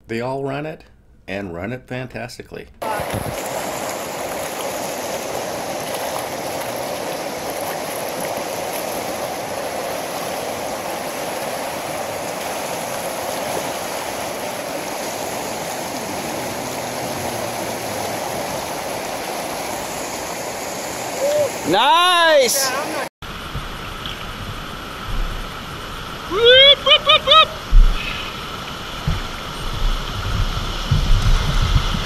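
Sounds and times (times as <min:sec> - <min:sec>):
whitewater rushing over boulders: 0:02.8 - 0:32.0.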